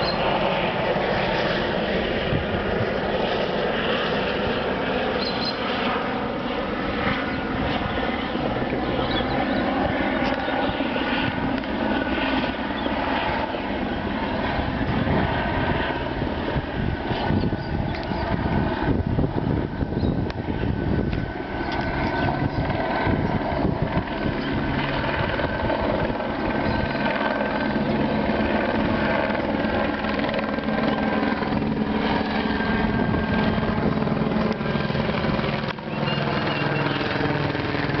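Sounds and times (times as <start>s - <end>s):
helicopter high whine: 0.0s - 38.0s
helicopter rotor beat: 0.0s - 38.0s.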